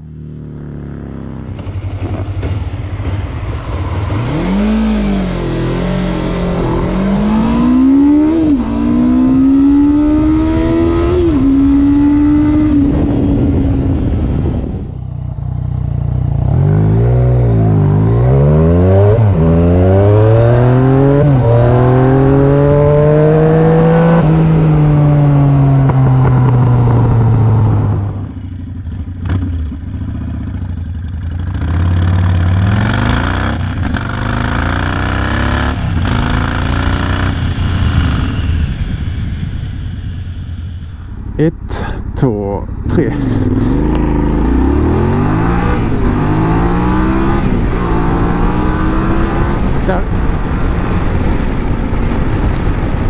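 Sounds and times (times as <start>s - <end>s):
motorcycle engine accelerating hard: 0.0s - 53.0s
v-twin motorcycle revving: 0.0s - 53.0s.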